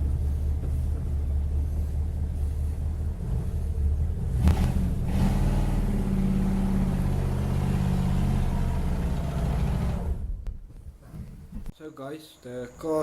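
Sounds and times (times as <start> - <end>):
car engine rumbling: 0.0 - 11.7.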